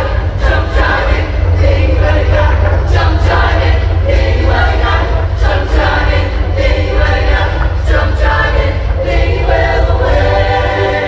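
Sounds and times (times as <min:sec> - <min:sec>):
amplified accompaniment with heavy bass: 0:00.0 - 0:11.0
show choir singing: 0:00.0 - 0:11.0.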